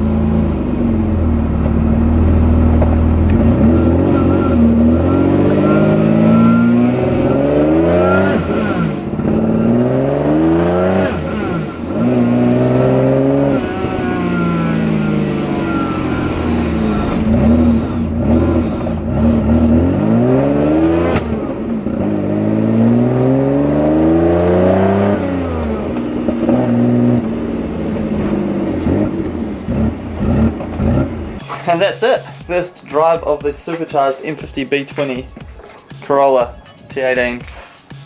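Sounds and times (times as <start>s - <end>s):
car engine revving: 0.0s - 36.2s.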